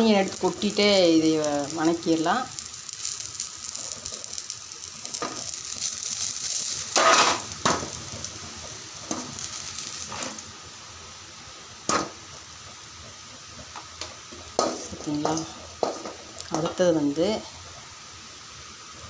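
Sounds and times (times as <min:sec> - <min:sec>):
shallots sizzling in hot oil: 0:00.0 - 0:19.0.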